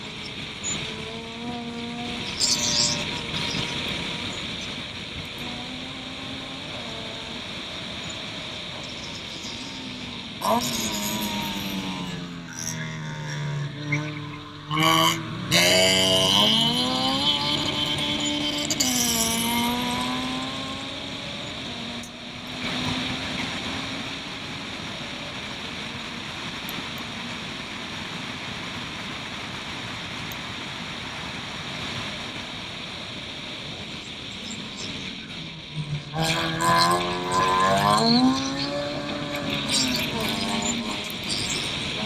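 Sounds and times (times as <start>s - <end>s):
race car engine at high revs: 0.0s - 42.0s
steady rushing noise: 0.0s - 42.0s.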